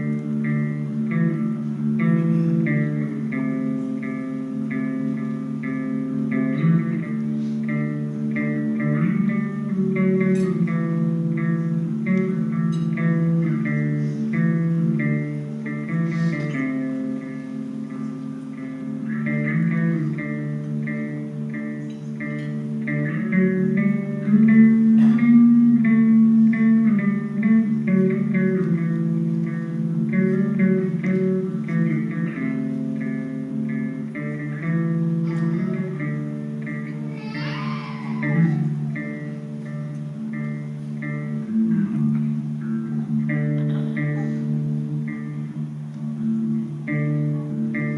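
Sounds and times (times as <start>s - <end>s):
solo guitar picking: 0.0s - 47.9s.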